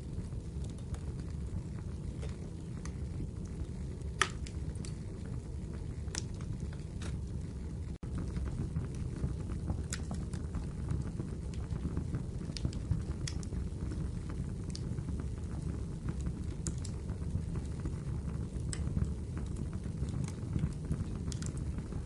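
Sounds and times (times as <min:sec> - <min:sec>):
fire popping and snapping: 0:00.0 - 0:22.0
wood fire crackling: 0:00.0 - 0:22.0.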